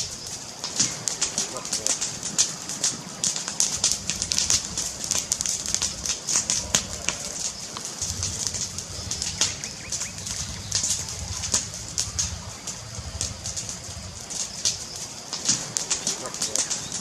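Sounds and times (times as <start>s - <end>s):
fireplace crackling: 0.0s - 17.0s
low rumble of fire: 0.0s - 17.0s.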